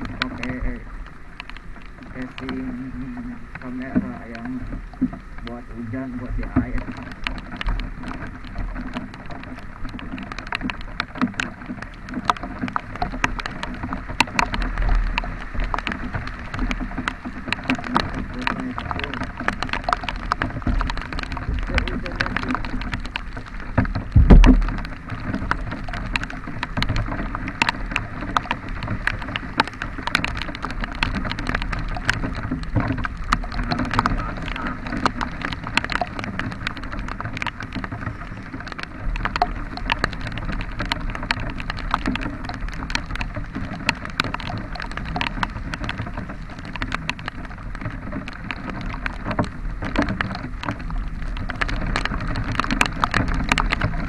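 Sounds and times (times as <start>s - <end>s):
heavy rain on camera: 0.0s - 54.0s.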